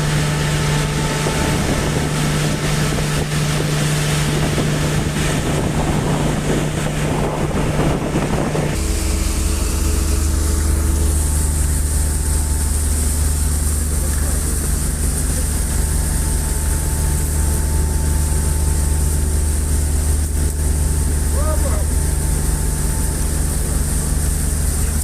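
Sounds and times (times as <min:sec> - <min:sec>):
boat engine running: 0:00.0 - 0:25.0
wind and water rushing: 0:00.0 - 0:25.0.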